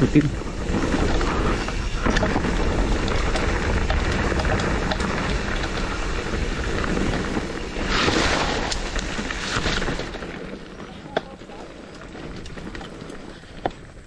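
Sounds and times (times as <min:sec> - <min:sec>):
bike rattles and clicks: 0:00.0 - 0:14.0
bike tyres on dirt trail: 0:00.0 - 0:14.0
wind buffeting microphone: 0:00.0 - 0:14.0.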